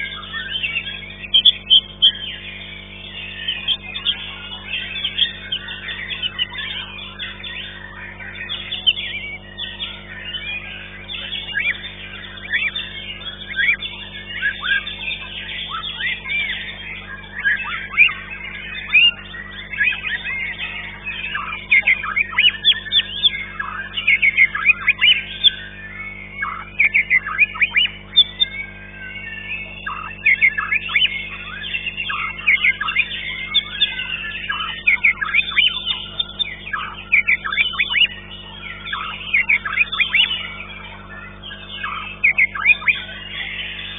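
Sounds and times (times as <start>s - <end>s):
songbirds chirping and whistling: 0.0s - 43.9s.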